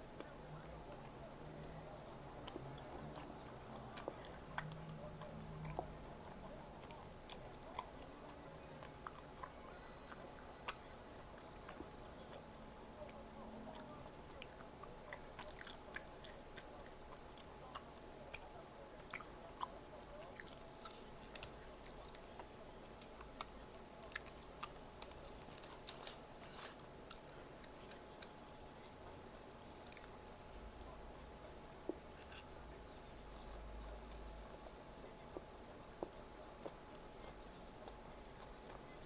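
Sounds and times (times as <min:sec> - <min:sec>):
close chewing and crunching: 0:00.2 - 0:39.0.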